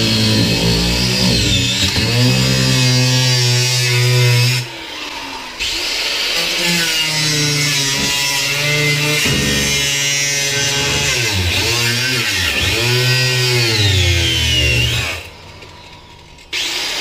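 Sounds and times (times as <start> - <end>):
angle grinder cutting wood: 0.0 - 17.0.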